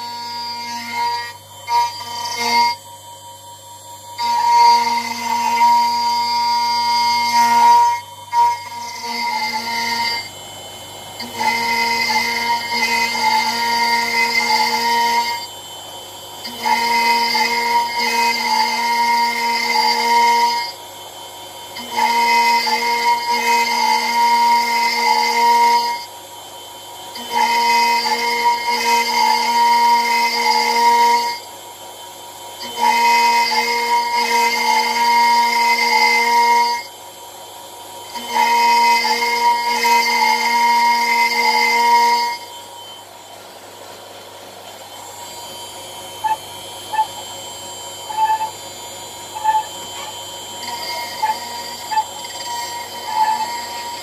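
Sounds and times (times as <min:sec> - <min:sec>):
cnc router cutting whine: 0:00.0 - 0:54.0.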